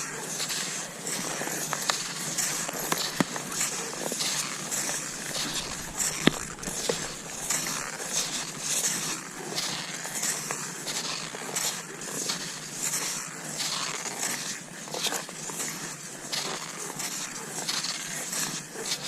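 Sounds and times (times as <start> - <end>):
skis swishing over snow: 0.2 - 19.0.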